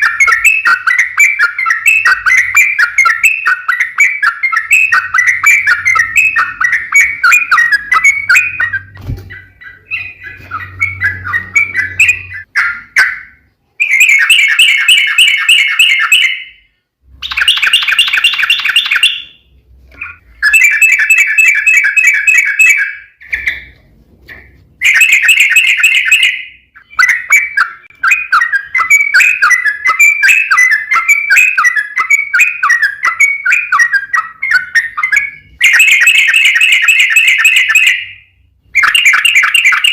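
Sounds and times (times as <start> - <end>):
bird singing rolling phrases: 0.0 - 39.9.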